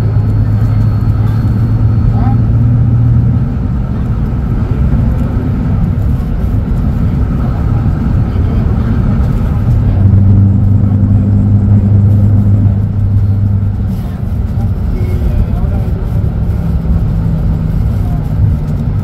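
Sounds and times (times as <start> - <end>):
bus diesel engine idling: 0.0 - 19.0.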